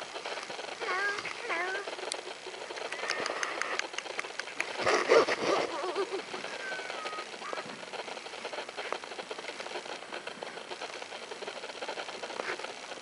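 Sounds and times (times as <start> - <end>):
sled rattling and clicking: 0.0 - 13.0
sled runners scraping snow: 0.0 - 13.0.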